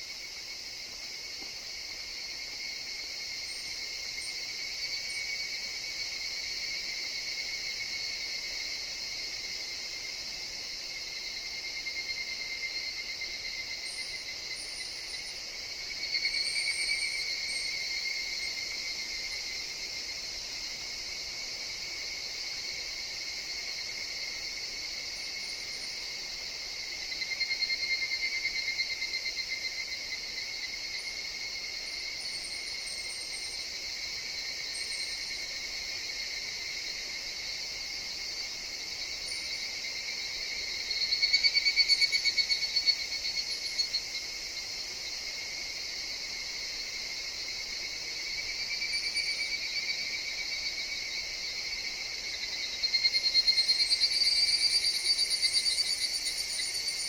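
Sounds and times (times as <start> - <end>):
cicadas trilling: 0.0 - 57.0
insect chorus: 0.0 - 57.0.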